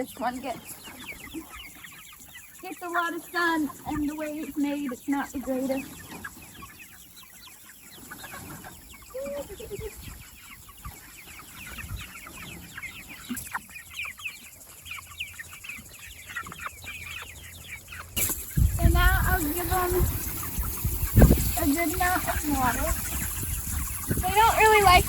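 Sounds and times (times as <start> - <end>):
chickens peeping and clucking: 0.0 - 25.0.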